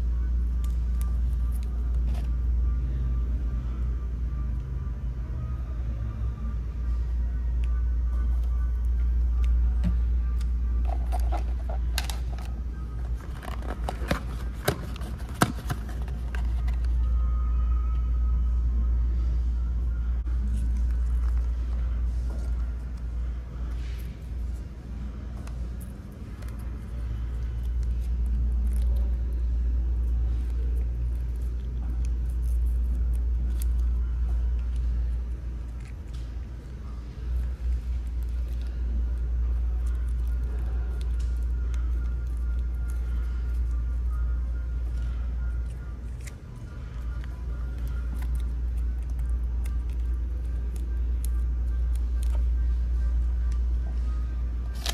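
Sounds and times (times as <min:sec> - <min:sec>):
steady low hum: 0:00.0 - 0:54.9
steady low rumble: 0:00.0 - 0:54.9.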